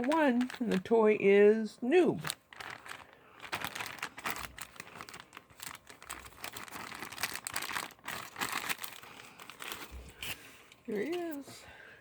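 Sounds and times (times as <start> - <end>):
plastic bag crinkling: 0.0 - 1.3, 2.0 - 11.6.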